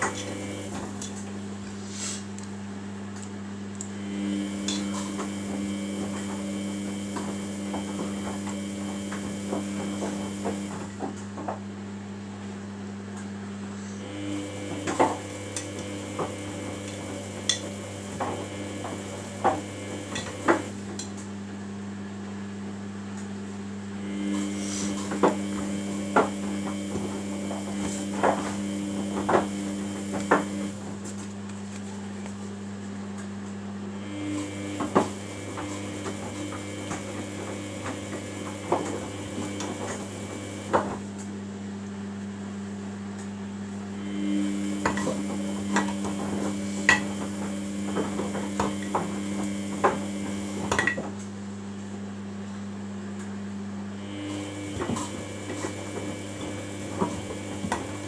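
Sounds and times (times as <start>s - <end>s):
washing machine motor humming: 0.0s - 58.0s.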